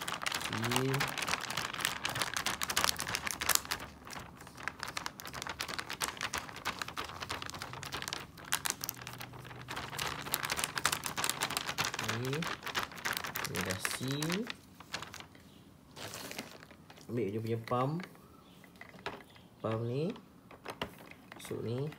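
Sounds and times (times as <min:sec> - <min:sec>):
plastic bag crinkling: 0:00.0 - 0:21.9.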